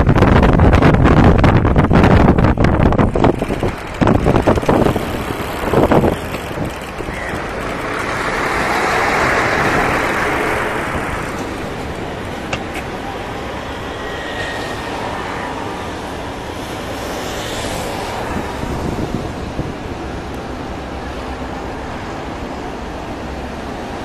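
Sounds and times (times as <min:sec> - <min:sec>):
wind buffeting microphone: 0:00.0 - 0:24.0
vehicle passing: 0:01.8 - 0:23.9.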